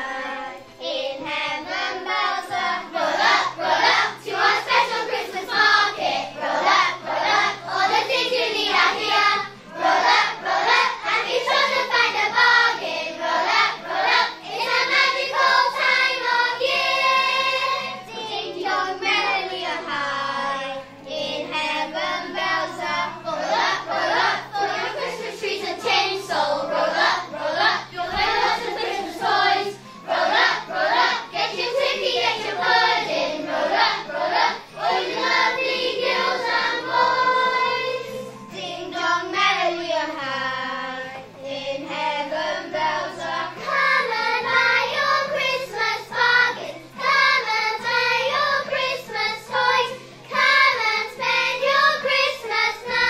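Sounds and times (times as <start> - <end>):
children singing in unison: 0.0 - 53.0
musical accompaniment with bass: 0.0 - 53.0.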